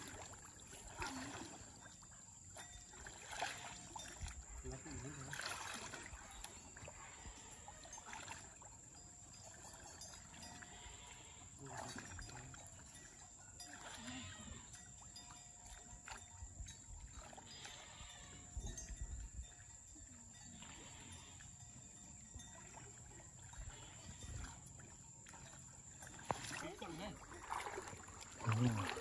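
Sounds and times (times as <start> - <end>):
muddy water sloshing and splashing: 0.0 - 29.0.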